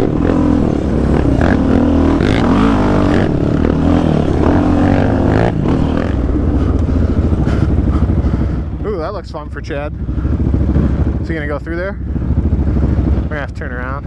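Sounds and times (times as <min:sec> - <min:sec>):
quad engine revving: 0:00.0 - 0:13.8.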